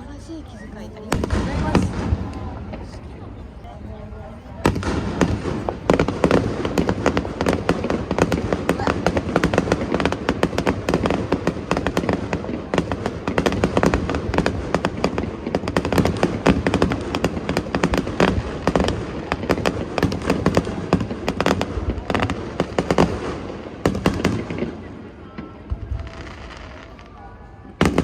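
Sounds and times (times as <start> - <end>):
fireworks bangs and crackles: 0.2 - 28.0.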